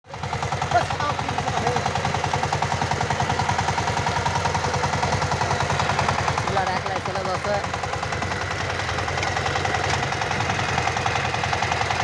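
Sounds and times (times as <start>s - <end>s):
power tiller engine running: 0.0s - 12.0s.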